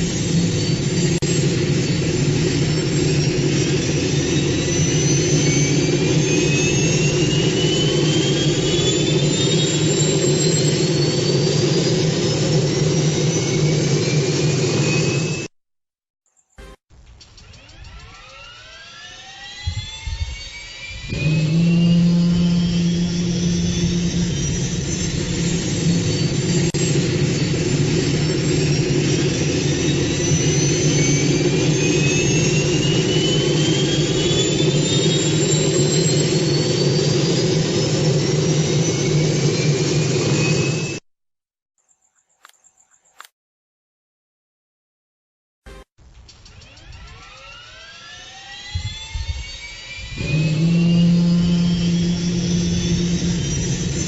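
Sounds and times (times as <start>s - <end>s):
jet engine roar: 0.0s - 15.5s, 17.2s - 41.0s, 46.3s - 54.0s
jet engine turbine whine: 0.0s - 15.5s, 17.1s - 41.0s, 46.2s - 54.0s.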